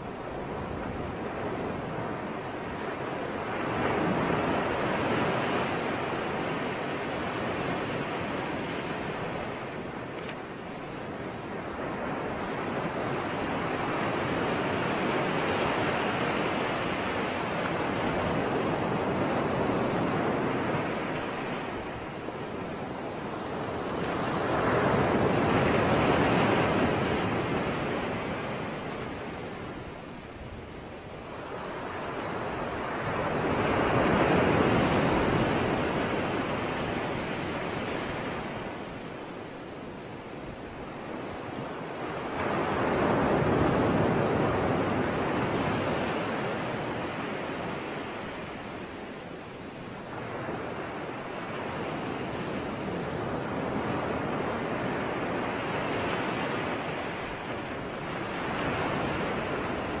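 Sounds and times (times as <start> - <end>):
sea surf washing onto shore: 0.0 - 60.0.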